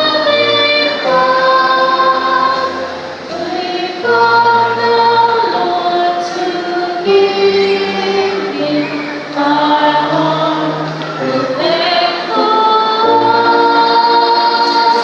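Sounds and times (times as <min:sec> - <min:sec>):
choir singing long chords: 0:00.0 - 0:15.0.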